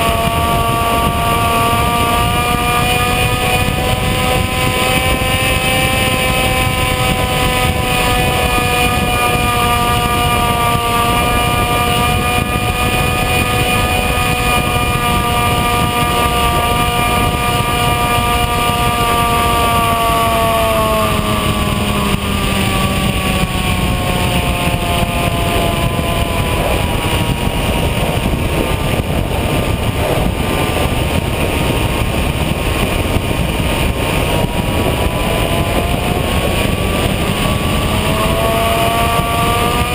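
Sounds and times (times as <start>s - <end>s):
electric motor and propeller whine: 0.0s - 39.9s
wind rushing past microphone: 0.0s - 39.9s.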